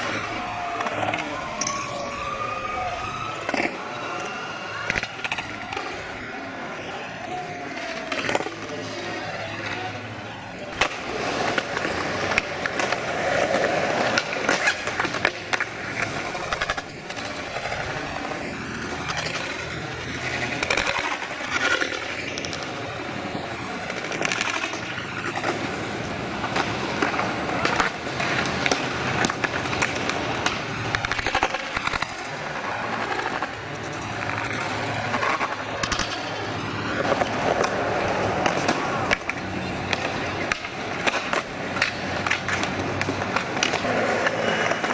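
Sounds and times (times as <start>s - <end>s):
skateboard wheels rolling on concrete: 0.0s - 44.9s
skateboards clacking on ground: 0.0s - 44.9s.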